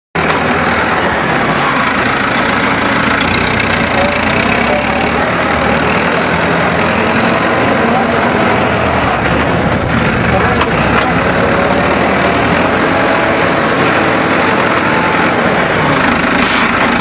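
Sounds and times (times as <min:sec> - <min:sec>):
tractor diesel engine running: 0:00.2 - 0:17.0.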